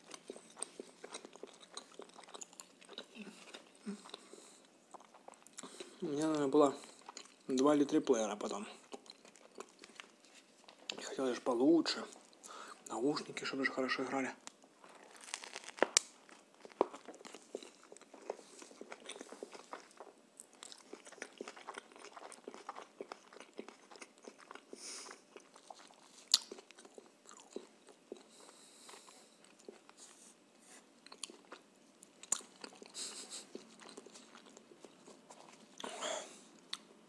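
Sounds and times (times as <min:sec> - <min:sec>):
person chewing food: 0:00.0 - 0:11.2, 0:14.5 - 0:37.0.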